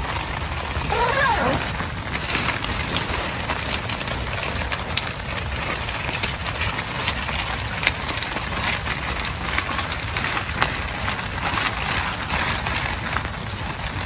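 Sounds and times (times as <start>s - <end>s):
heavy rain: 0.0s - 14.0s
raindrops ticking on a surface: 0.0s - 14.0s.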